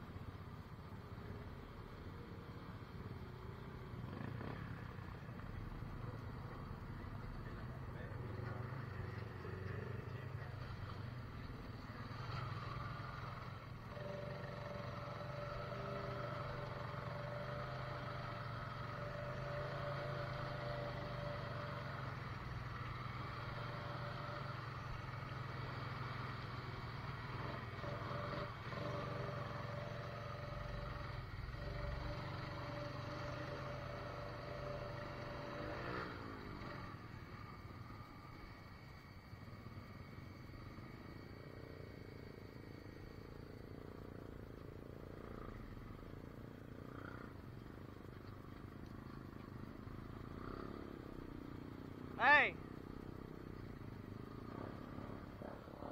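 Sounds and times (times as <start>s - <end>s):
atv engines running: 0.0s - 55.9s.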